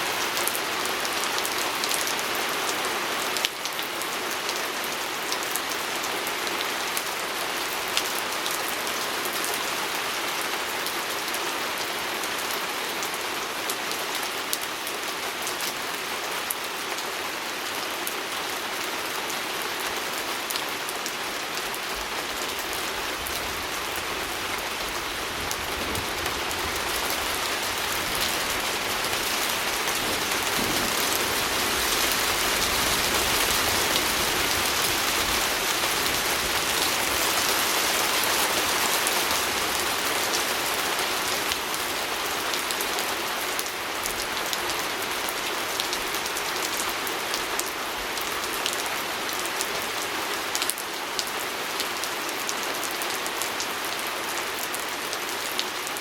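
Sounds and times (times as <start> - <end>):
rain pattering on a window: 0.1 - 53.8.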